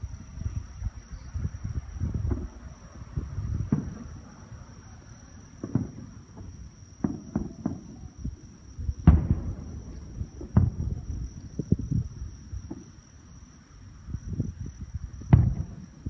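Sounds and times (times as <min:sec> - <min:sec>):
fireworks booms and pops: 0:01.4 - 0:04.8, 0:05.4 - 0:13.1, 0:14.0 - 0:16.0.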